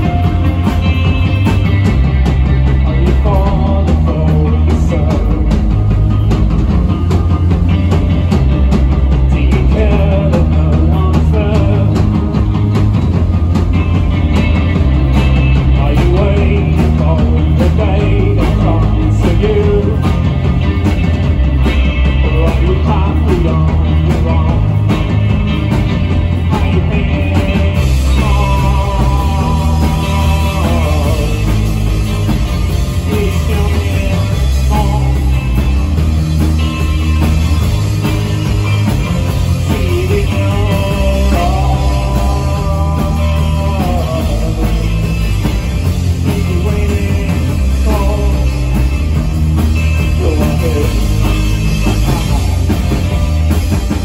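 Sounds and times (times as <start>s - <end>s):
man singing: 0.0s - 6.0s, 9.0s - 12.6s, 14.4s - 20.8s, 21.6s - 35.9s, 39.5s - 53.2s
bass guitar: 0.0s - 54.0s
electric guitar: 0.0s - 54.0s.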